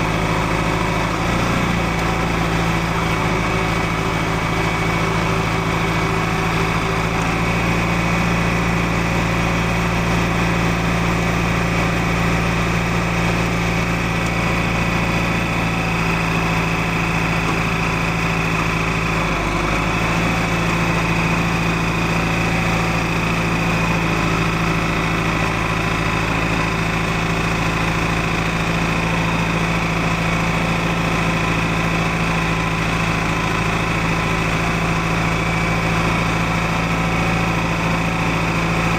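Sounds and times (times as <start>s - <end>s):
tractor engine droning: 0.0s - 38.9s.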